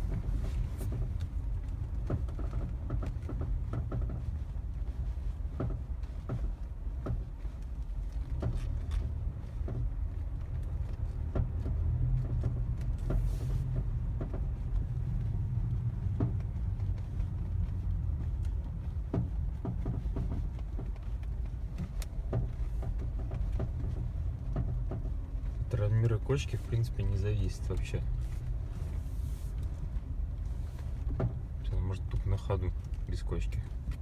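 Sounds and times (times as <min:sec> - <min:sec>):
low road rumble inside car: 0:00.0 - 0:34.0.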